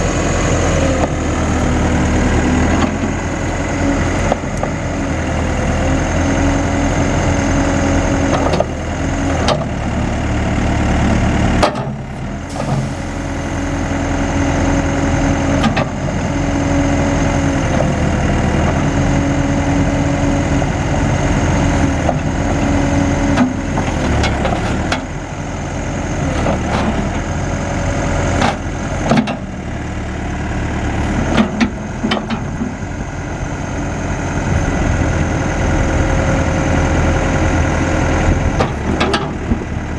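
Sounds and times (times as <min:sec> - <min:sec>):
diesel engine running: 0:00.0 - 0:39.9
engine whine: 0:00.0 - 0:39.9.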